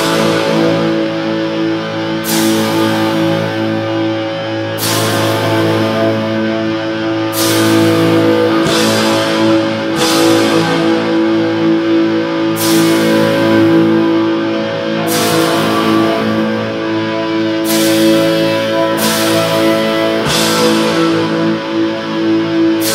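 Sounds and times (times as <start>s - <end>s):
cymbal crash: 0.0s - 22.9s
droning guitar and keyboard chords: 0.0s - 22.9s.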